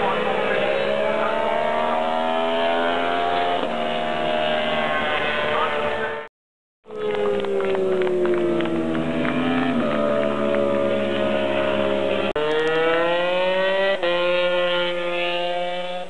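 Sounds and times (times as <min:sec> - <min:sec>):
racing motorcycle engines revving: 0:00.0 - 0:06.3, 0:06.9 - 0:16.0.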